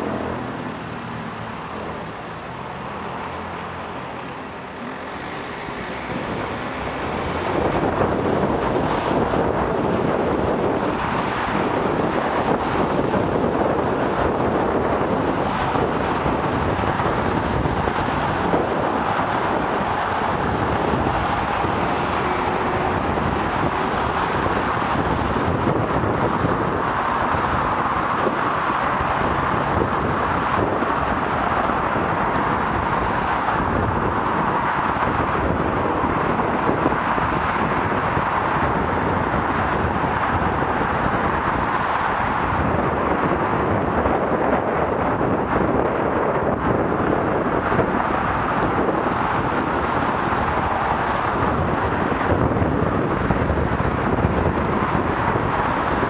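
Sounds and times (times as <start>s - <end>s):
passing car traffic: 0.0s - 56.0s
traffic idling: 0.0s - 56.0s
wind and road noise: 0.0s - 56.0s.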